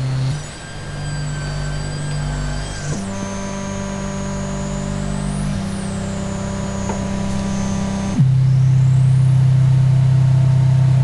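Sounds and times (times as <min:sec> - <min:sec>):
low buzzing synthesized tone: 0:00.0 - 0:11.0.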